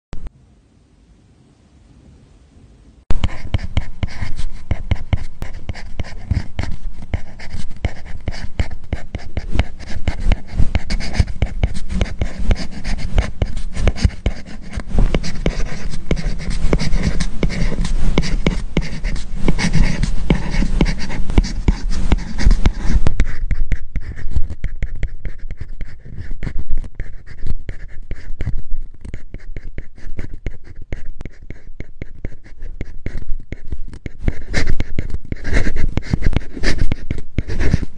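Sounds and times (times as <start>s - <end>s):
stylus scratching on a screen: 3.1s - 37.9s.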